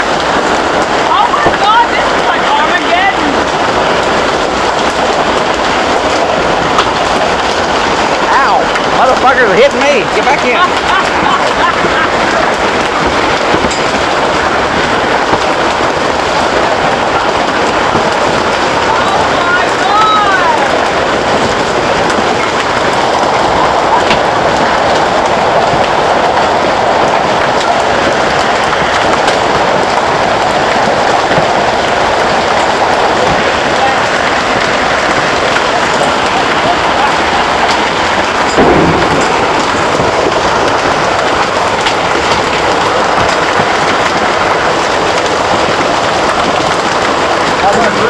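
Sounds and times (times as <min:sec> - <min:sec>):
hail and rain pelting down: 0:00.0 - 0:48.0
hailstones clicking: 0:00.0 - 0:48.0.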